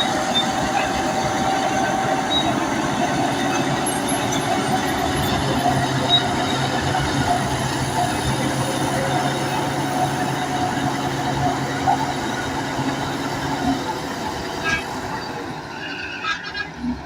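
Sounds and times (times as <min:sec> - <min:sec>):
bulldozer engine drone: 0:00.0 - 0:17.0
high squeal of steel tracks: 0:00.0 - 0:17.0.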